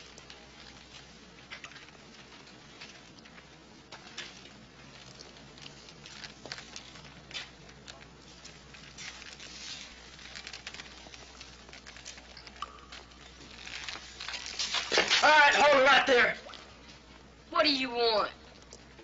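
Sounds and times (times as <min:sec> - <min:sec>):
footsteps taps and rustling: 0:00.0 - 0:15.2
low steady hum: 0:00.0 - 0:19.0.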